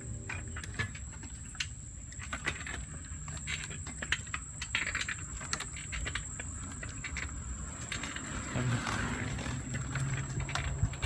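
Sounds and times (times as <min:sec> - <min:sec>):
bicycle rolling on boardwalk: 0:00.0 - 0:11.0.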